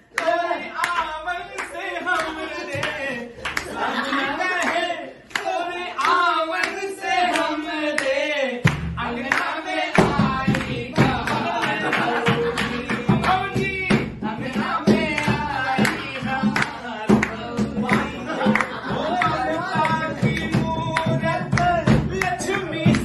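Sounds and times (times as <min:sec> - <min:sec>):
men singing together: 0:00.0 - 0:23.0
people clapping: 0:00.0 - 0:23.0.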